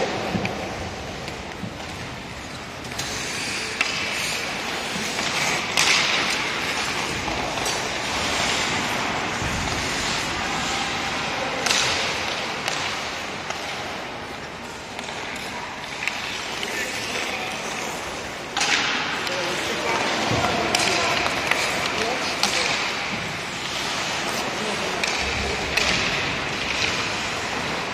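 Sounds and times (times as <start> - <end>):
skates scraping on ice: 0.0 - 27.9.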